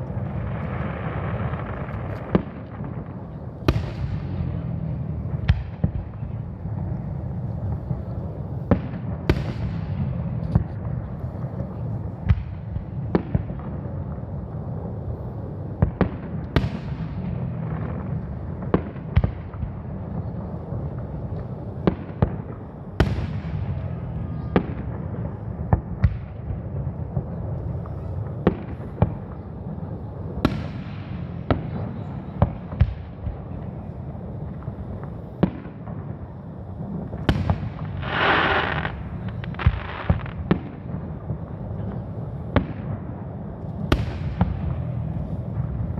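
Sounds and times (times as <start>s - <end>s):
fireworks bursting with bangs: 0.0s - 45.9s
hissing fireworks: 0.0s - 45.9s
steady low rumble: 0.0s - 45.9s.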